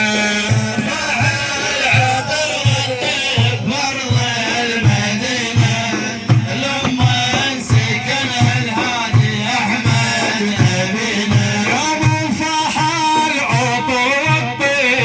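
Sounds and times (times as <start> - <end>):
repeating drum beat: 0.0 - 15.0.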